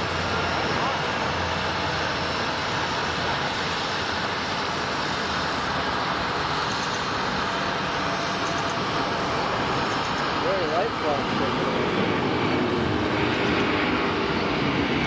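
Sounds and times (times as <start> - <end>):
jet engine noise: 0.0 - 15.0.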